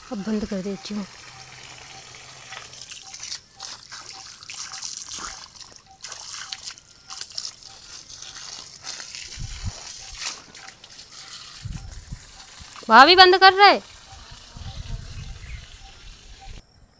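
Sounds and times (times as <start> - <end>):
water pouring from pipe onto grass: 0.0 - 16.4.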